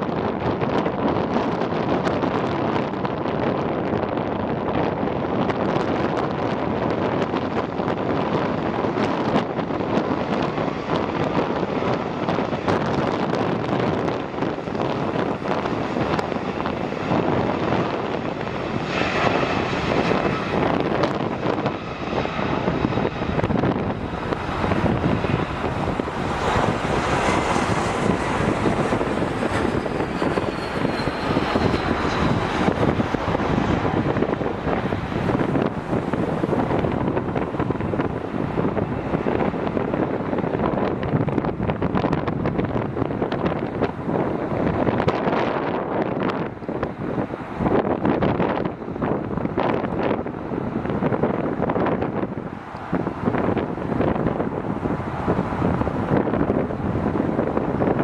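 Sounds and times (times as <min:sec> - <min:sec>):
jet engine whine: 0:00.0 - 0:58.0
jet engines rumbling: 0:00.0 - 0:58.0
wind buffeting microphone: 0:00.0 - 0:58.0.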